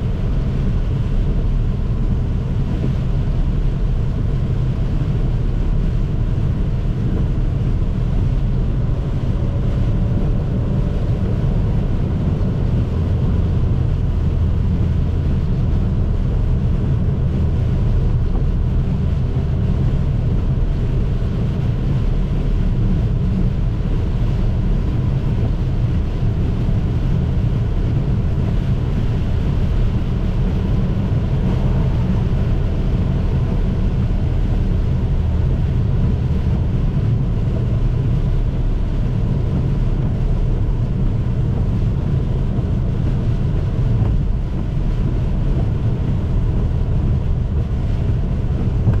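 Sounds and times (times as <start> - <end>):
car rumble on wet road: 0.0 - 49.0.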